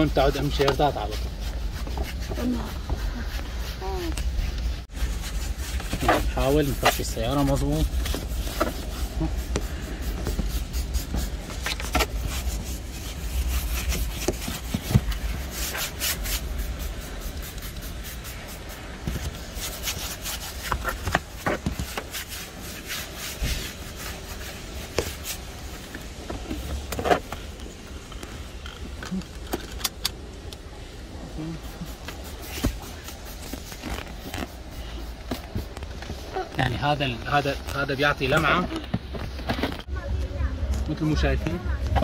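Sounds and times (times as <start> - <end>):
brush scrubbing surfaces: 0.0 - 27.9, 31.0 - 38.7.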